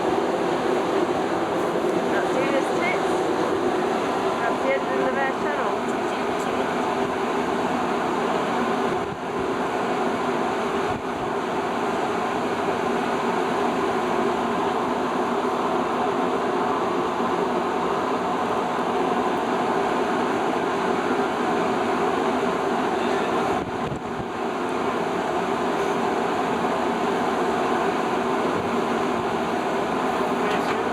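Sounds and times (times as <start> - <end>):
rushing wind and water: 0.0 - 30.1
ship engines and machinery drone: 0.0 - 30.9.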